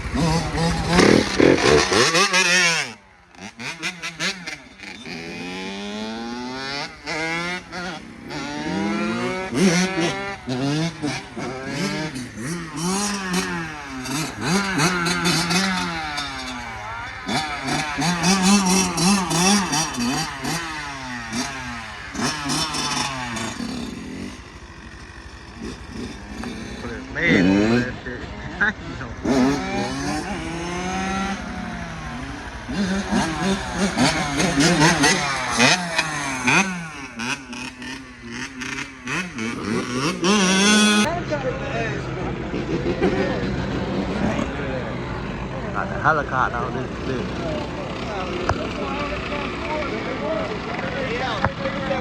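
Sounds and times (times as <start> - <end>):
dirt bikes revving past: 0.0 - 52.0.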